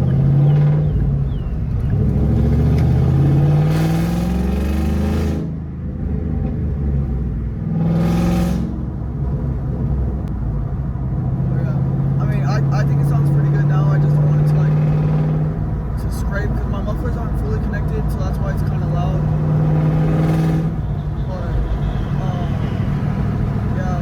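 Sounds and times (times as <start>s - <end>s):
loud car exhaust accelerating: 0.0s - 24.0s.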